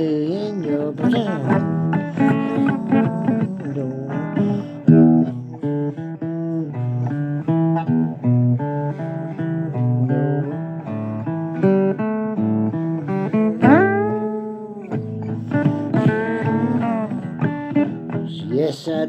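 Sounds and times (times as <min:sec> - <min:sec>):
blues guitar playing: 0:00.0 - 0:19.0.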